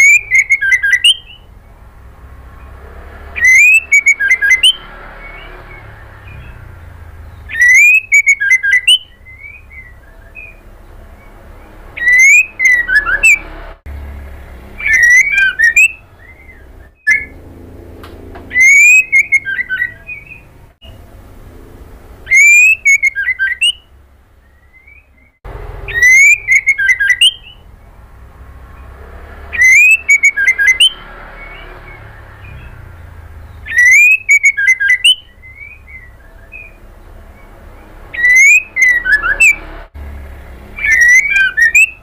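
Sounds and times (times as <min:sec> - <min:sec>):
bird singing: 0:00.0 - 0:21.1, 0:22.2 - 0:42.0.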